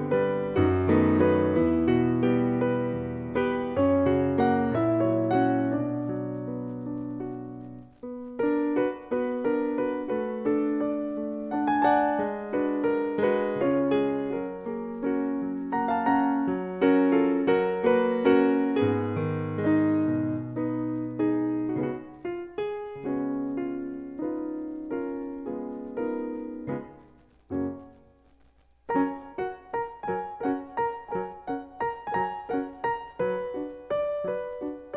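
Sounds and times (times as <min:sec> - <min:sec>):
solo piano playing: 0:00.0 - 0:28.2, 0:28.9 - 0:34.9.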